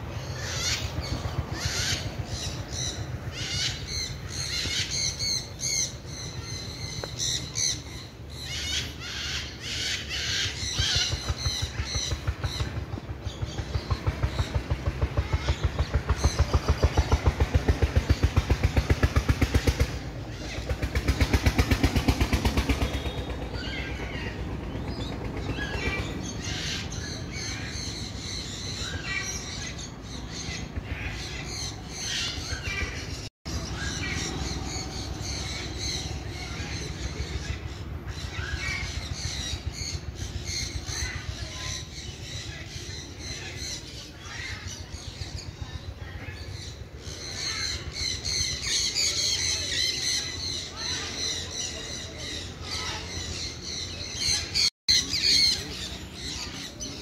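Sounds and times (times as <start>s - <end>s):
birds squawking: 0.0s - 57.0s.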